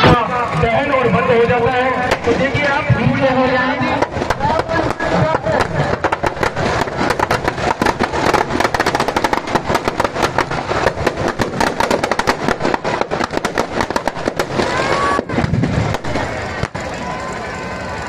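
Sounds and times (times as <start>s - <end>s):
crowd voices: 0.0s - 18.0s
firecrackers crackling bangs: 0.0s - 18.0s.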